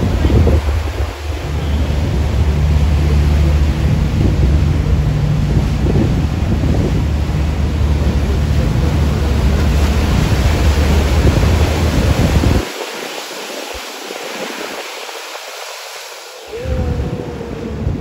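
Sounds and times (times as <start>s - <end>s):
wind buffeting microphone: 0.0s - 15.7s, 16.5s - 18.0s
boat engine droning: 0.0s - 18.0s.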